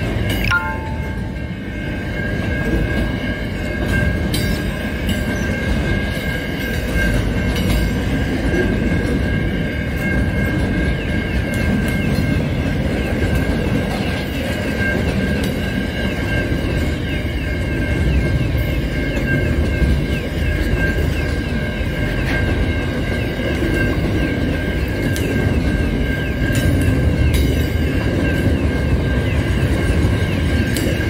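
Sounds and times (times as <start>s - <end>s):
freight train rumbling past: 0.0s - 31.0s
wheels clicking over rail joints: 0.0s - 31.0s.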